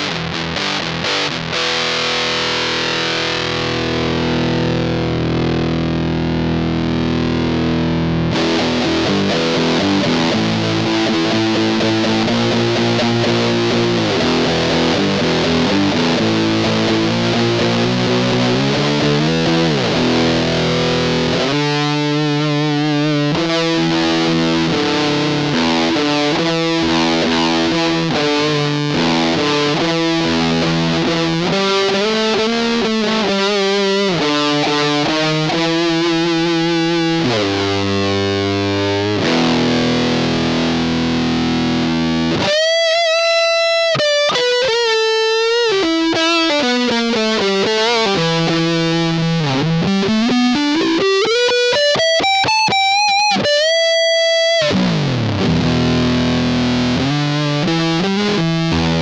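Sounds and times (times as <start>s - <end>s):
fuzzed electric guitar: 0.0s - 59.0s.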